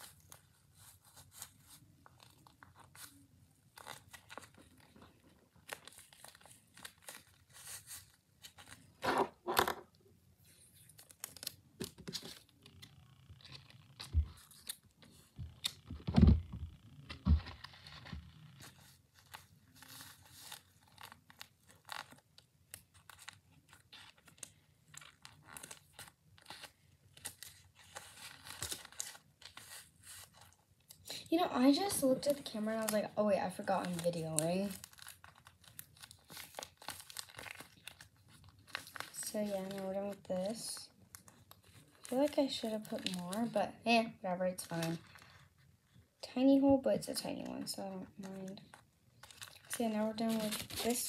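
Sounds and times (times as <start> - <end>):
paper crinkling and rustling: 0.0 - 9.6, 10.4 - 16.4, 17.1 - 43.6, 44.3 - 51.0.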